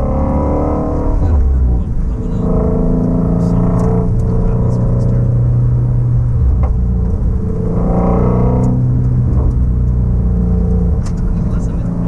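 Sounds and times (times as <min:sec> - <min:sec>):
car engine running at low revs: 0:00.0 - 0:12.0
low road rumble: 0:00.0 - 0:12.0.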